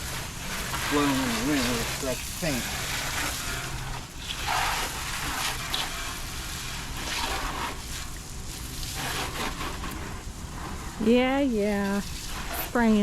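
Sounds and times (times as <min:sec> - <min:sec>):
hose spraying water on vehicle: 0:00.0 - 0:13.0
low steady hum: 0:00.0 - 0:13.0.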